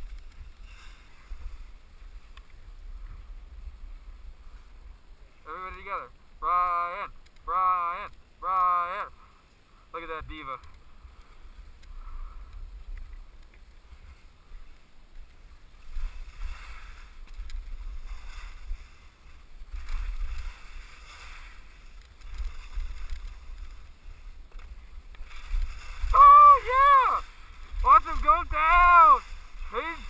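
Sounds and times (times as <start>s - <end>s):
skis scraping over snow: 0.0s - 6.0s, 10.0s - 30.0s
wind rumbling on microphone: 0.0s - 8.5s, 10.2s - 30.0s.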